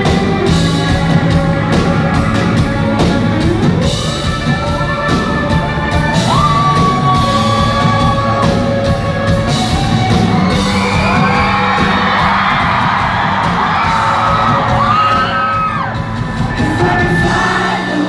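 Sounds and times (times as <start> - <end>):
audience yelling and whooping: 0.0 - 18.0
live rock band with singing: 0.0 - 18.0.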